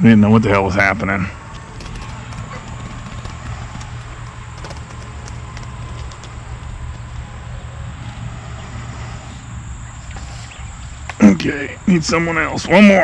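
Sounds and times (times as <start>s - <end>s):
low rumble of handling noise: 0.2s - 13.0s.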